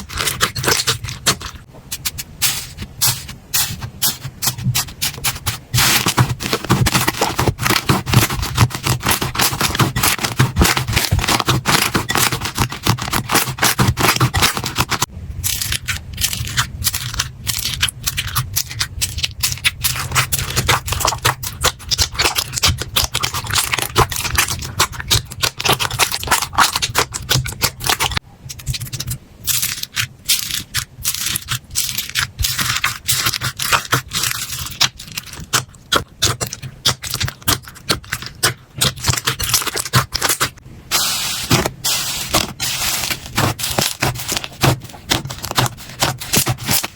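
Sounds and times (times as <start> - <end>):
slime crackling and popping: 0.0 - 40.6, 41.4 - 46.9.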